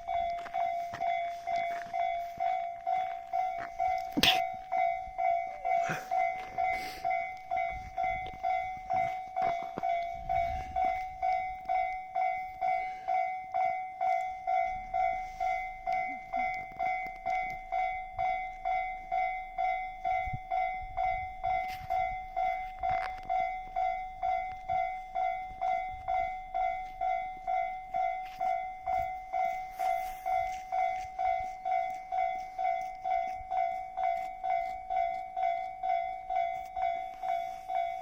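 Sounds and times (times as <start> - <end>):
level crossing warning bell: 0.0 - 38.0
passing train rumbling: 0.0 - 38.0.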